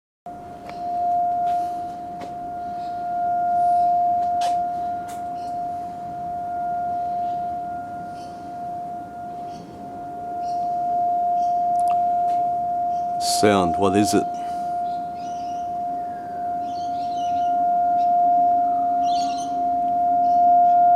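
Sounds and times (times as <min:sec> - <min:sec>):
steady high-pitched tone: 0:00.3 - 0:20.9
small birds chirping: 0:00.6 - 0:20.9.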